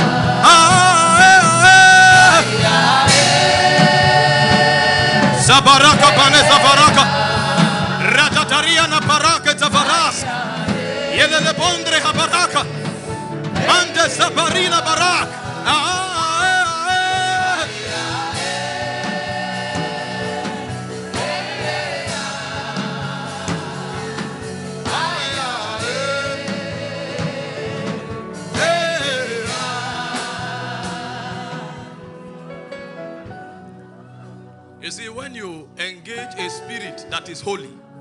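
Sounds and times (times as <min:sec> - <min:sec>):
voices singing with vibrato: 0:00.0 - 0:32.4
instrumental backing: 0:00.0 - 0:38.0.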